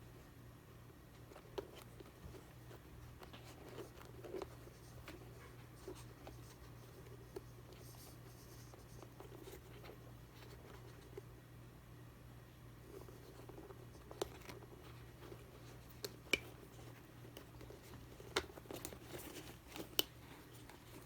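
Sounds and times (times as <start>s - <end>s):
small clicks and scratching: 1.1s - 11.3s, 12.8s - 21.0s.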